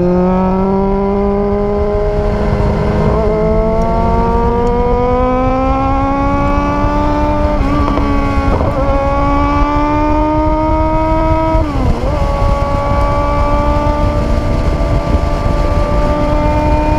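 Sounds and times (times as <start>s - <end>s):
car engine under load: 0.0s - 16.9s
constant low rumble: 1.7s - 16.9s.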